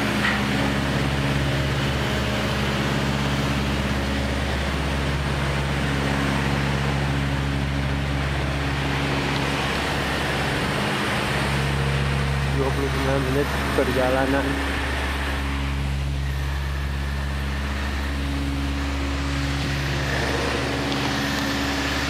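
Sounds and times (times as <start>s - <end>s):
low mechanical hum: 0.0s - 22.0s
street noise: 0.0s - 22.0s.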